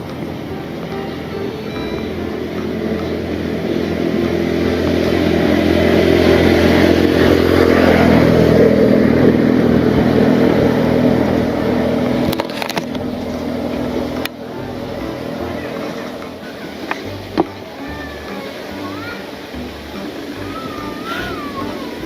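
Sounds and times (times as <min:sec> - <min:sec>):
motor engine running: 0:00.0 - 0:22.0.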